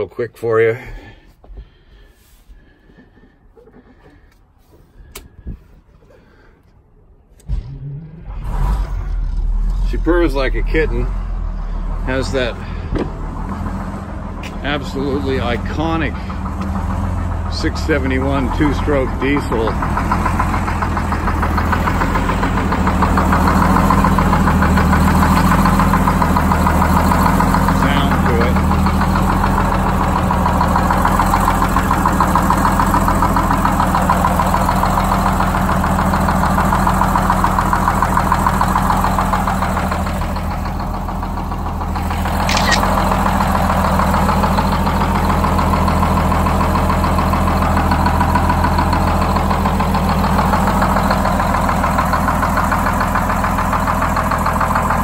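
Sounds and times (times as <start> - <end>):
diesel bus engine idling: 0.0 - 7.4, 8.0 - 55.0.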